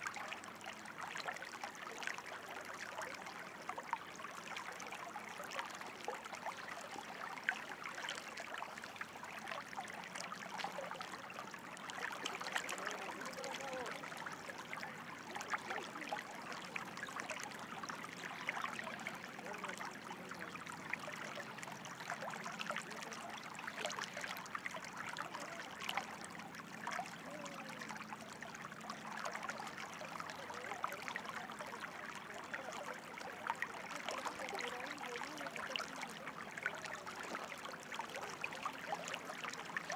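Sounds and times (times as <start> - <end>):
stream trickling and gurgling: 0.0 - 39.9.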